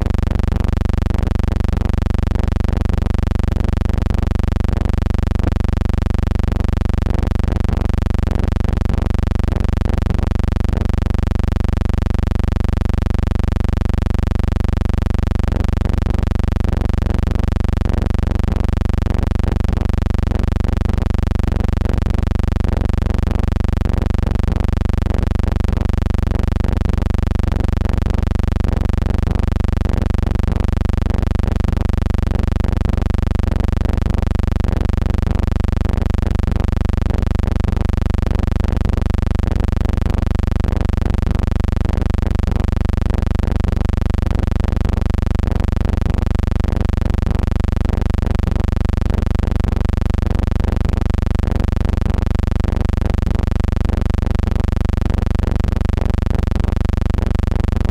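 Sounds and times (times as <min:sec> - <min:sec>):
pulsing low hum: 0:00.0 - 0:57.9.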